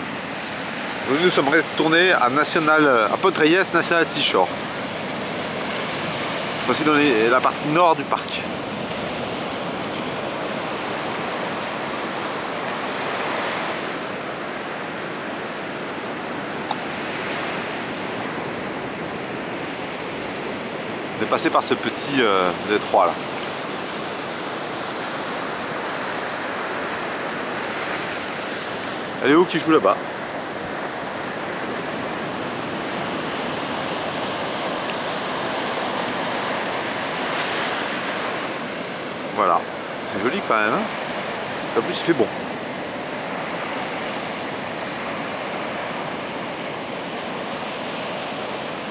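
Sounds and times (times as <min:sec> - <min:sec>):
ocean waves breaking on beach: 0:00.0 - 0:48.9.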